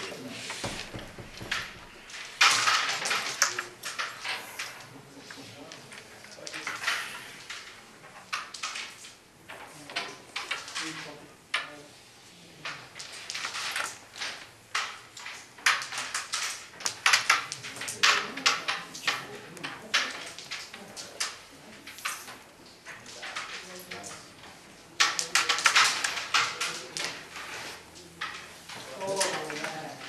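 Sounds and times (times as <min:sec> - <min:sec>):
carrom pieces clacking: 0:00.0 - 0:11.9, 0:12.6 - 0:30.0.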